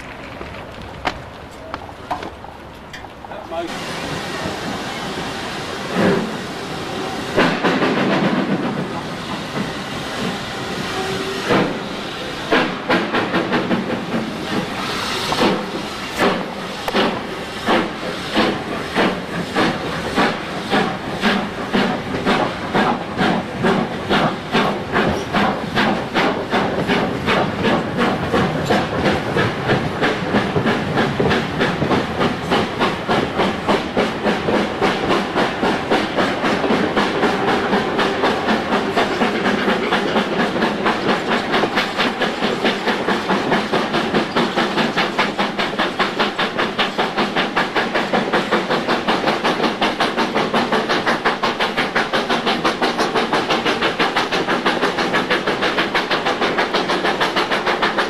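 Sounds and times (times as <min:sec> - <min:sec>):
steam locomotive chuffing: 0:00.0 - 0:58.0
steam hissing: 0:03.3 - 0:58.0.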